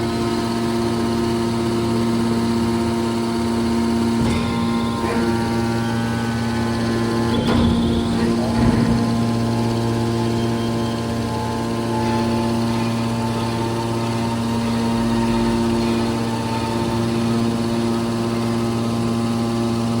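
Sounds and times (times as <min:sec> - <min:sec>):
hydraulic power unit hum: 0:00.0 - 0:20.0.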